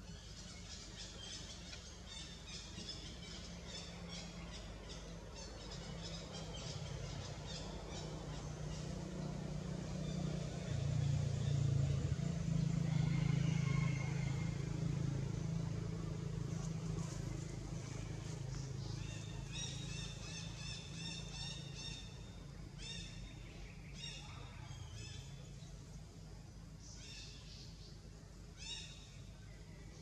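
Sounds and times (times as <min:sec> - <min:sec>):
low engine-like drone: 0:00.0 - 0:30.0.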